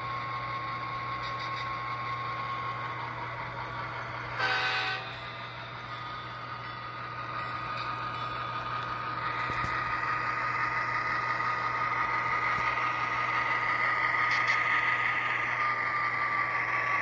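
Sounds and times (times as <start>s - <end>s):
model train diesel engine sound: 0.0s - 17.0s
thin steady whine: 0.0s - 17.0s.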